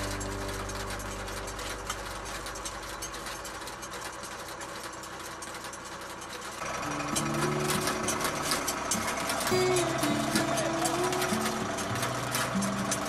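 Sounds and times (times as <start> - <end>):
mechanical clatter of transplanter: 0.0 - 13.0
tractor engine running: 0.0 - 13.0.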